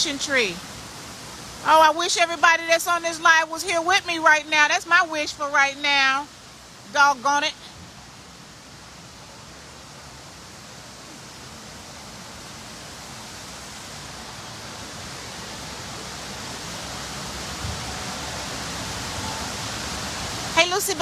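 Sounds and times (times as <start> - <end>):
indoor waterfall rushing: 0.0 - 21.0.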